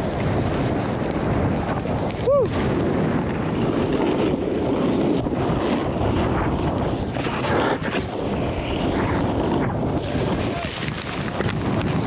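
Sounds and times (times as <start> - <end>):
snowboard edges scraping snow: 0.0 - 12.0
wind rushing over microphone: 0.0 - 12.0.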